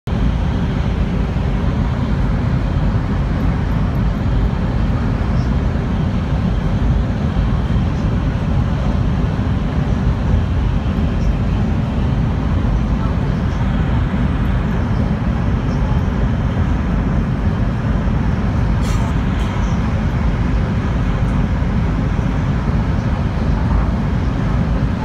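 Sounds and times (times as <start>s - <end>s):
train running noise from cabin: 0.1s - 25.0s.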